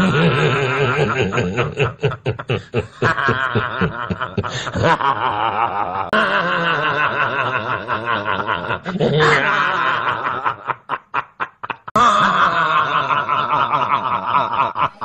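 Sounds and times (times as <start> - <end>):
people laughing: 0.0 - 15.0.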